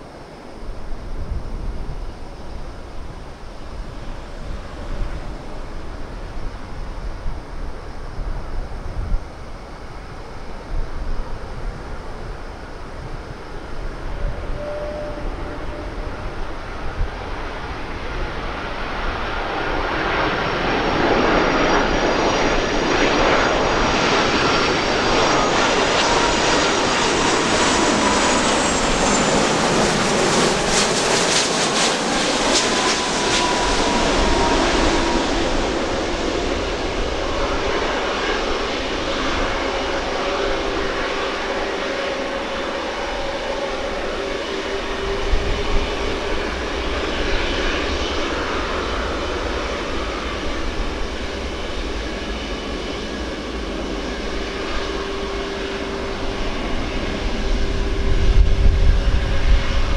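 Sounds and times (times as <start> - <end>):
jet airliner roar: 0.0 - 59.9
jet engine whine: 0.0 - 59.9.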